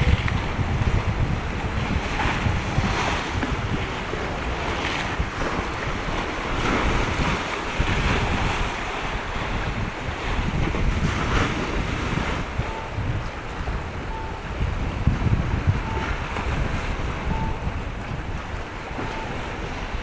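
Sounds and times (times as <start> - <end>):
waves washing: 0.0 - 20.0
wind buffeting microphone: 0.0 - 20.0.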